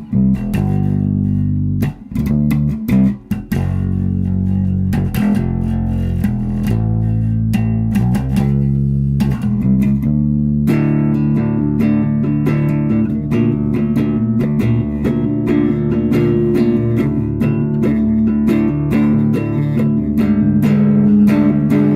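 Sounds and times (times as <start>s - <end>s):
electric bass guitar notes: 0.0s - 21.9s.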